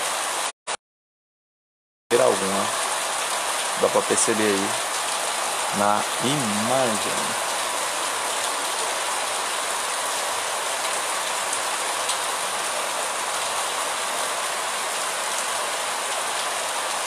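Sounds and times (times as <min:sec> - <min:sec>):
steady rain falling: 0:00.0 - 0:00.5, 0:02.1 - 0:17.0.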